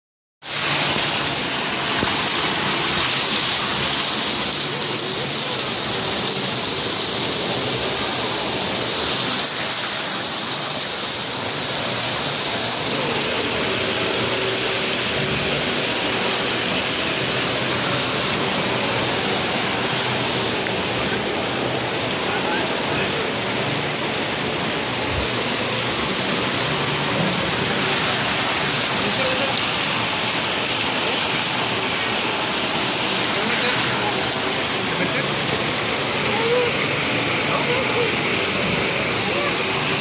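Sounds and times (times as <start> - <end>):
fountain water splashing: 0.4 - 40.0.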